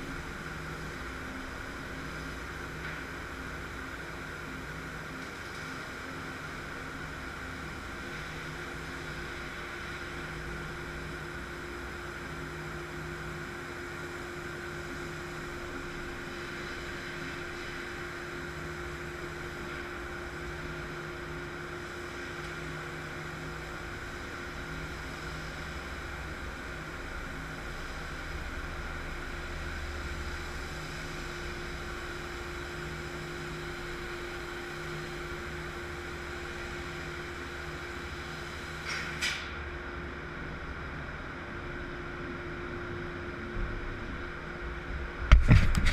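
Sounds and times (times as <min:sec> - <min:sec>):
laser cutting machine humming: 0:00.0 - 0:45.9.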